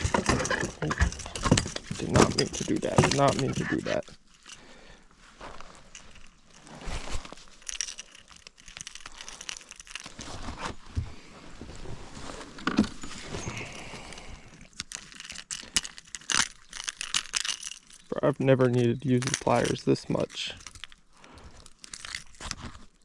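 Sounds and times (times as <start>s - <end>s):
gear rustling and knocking: 0.0s - 4.7s, 5.4s - 23.0s.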